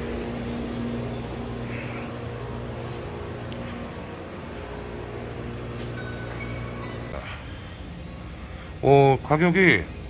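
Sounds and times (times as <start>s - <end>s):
appliance mechanical hum: 0.0s - 10.0s.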